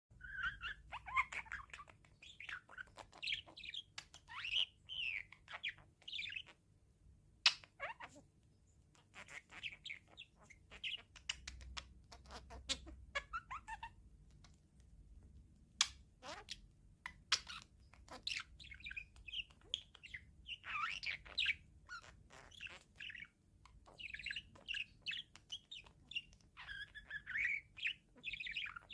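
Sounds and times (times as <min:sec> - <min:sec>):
parrot chirping and chattering: 0:00.1 - 0:06.7, 0:07.4 - 0:28.9.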